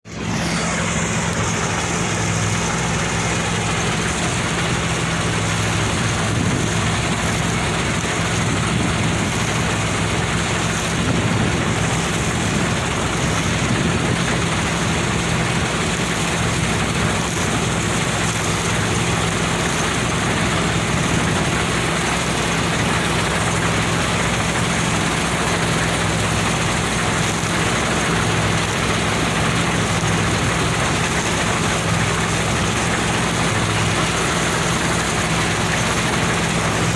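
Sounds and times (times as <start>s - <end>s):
combine harvester diesel engine drone: 0.0s - 36.9s.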